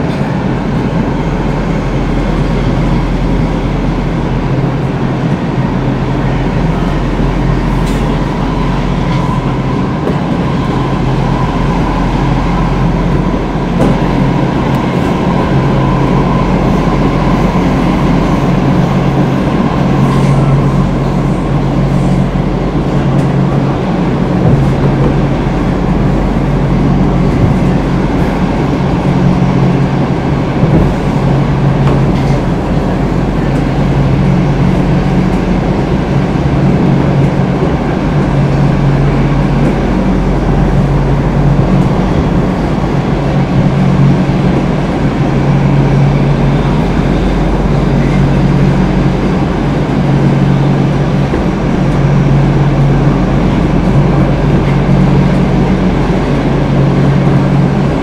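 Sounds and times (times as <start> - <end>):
subway car rumbling at speed: 0.0 - 58.0.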